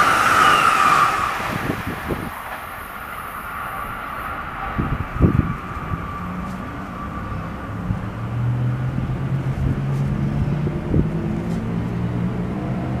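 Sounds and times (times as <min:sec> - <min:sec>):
electric train rumble and hum: 0:00.0 - 0:13.0.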